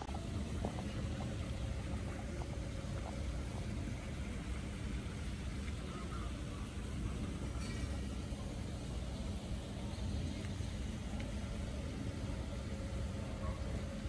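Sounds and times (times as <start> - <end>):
faint hiss: 0.0 - 14.0
low outdoor rumble: 0.0 - 14.0.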